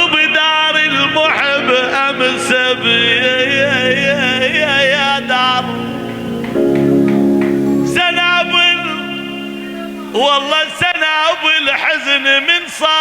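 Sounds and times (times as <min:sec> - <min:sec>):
man singing melismatic vocal: 0:00.0 - 0:06.5, 0:07.8 - 0:13.0
held low accompanying tones: 0:00.0 - 0:11.6.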